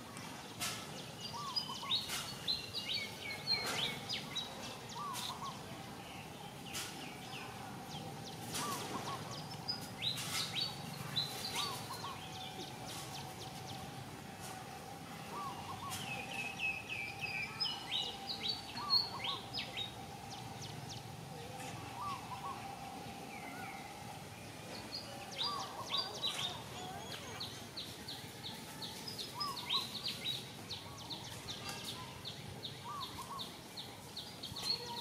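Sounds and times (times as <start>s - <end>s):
wild birds chirping: 0.0s - 35.0s.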